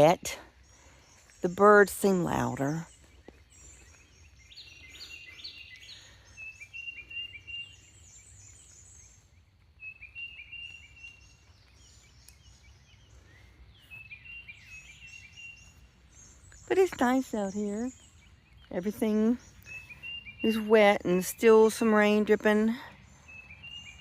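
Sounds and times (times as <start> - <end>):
wild birds singing and chirping: 0.0 - 24.0.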